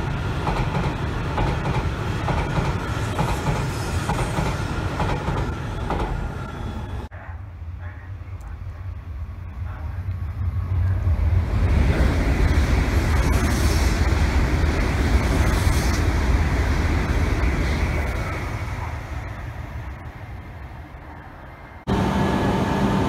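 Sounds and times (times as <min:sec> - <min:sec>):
high-speed train passing: 0:00.0 - 0:23.0.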